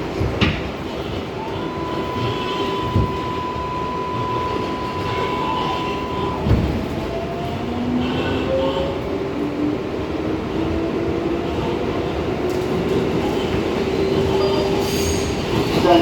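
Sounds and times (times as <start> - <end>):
subway train electric whine: 0.0 - 16.0
train wheels rumbling: 0.0 - 16.0.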